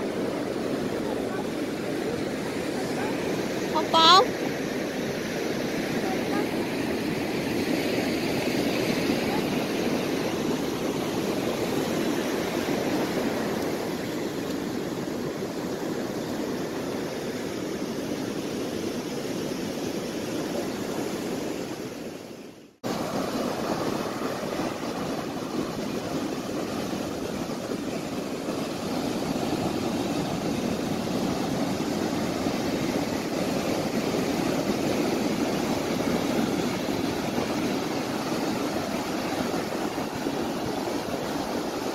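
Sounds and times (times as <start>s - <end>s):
surf breaking on beach: 0.0s - 22.2s, 22.8s - 41.9s.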